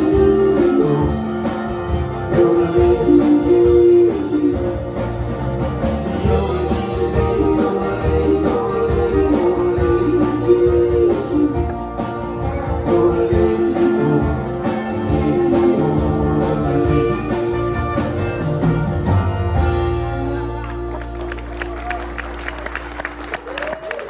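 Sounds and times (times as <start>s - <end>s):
electric guitar: 0.0s - 22.2s
country band playing: 0.0s - 23.8s.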